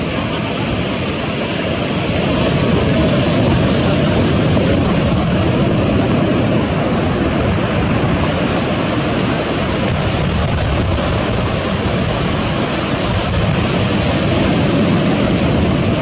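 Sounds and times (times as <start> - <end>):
surf roaring on a beach: 0.0 - 16.0
wind rumbling on microphone: 0.0 - 16.0.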